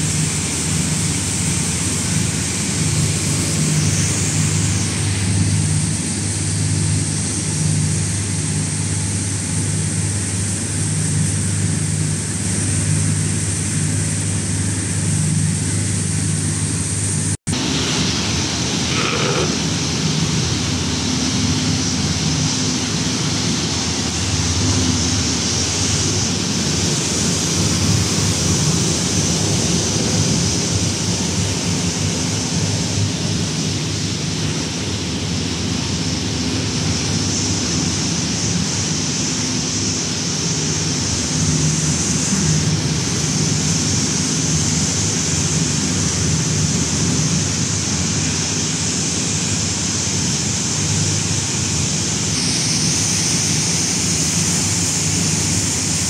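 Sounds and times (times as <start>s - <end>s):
machines running with hum and hiss: 0.0s - 56.0s.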